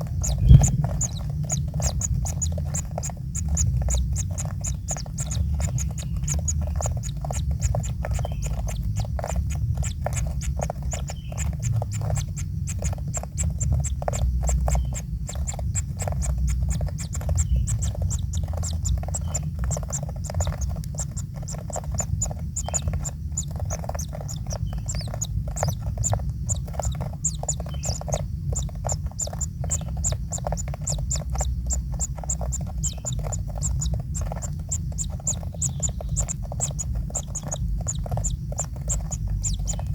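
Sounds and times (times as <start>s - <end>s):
chicks chirping: 0.0s - 39.9s
low rumble: 0.0s - 39.9s.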